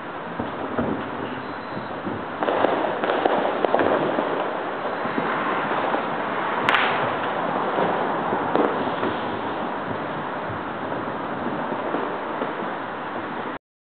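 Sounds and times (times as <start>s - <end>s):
fireworks crackling and popping: 0.0s - 13.6s
sharp firecracker bang: 0.4s - 12.8s.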